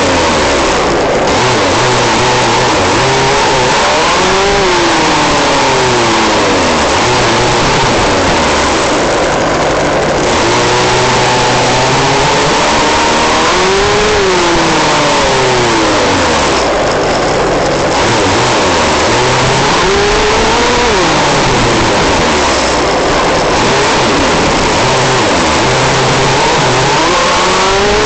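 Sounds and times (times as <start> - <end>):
rc buggy engine revving: 0.0 - 28.0
wind and tyres rushing: 0.0 - 28.0.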